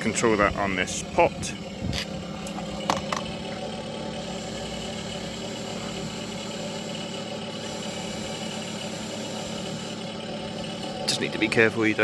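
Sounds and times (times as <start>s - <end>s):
simulated engine idle through small speaker: 0.0s - 12.0s.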